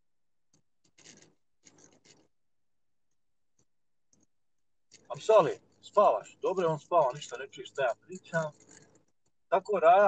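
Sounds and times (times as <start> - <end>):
faint clicks and rustles: 0.5 - 2.4, 3.0 - 10.0.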